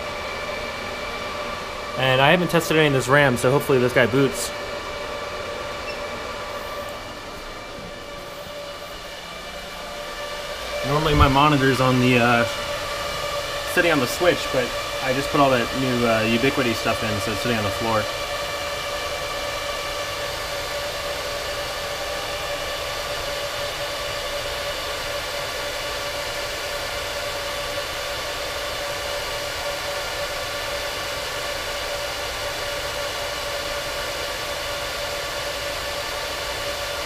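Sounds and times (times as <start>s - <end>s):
fan whining tones: 0.0s - 37.0s
server cooling fans whirring: 0.0s - 37.0s.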